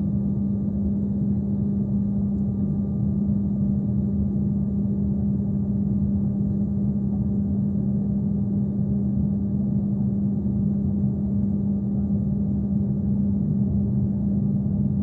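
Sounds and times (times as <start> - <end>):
cabin ventilation hum: 0.0 - 15.0.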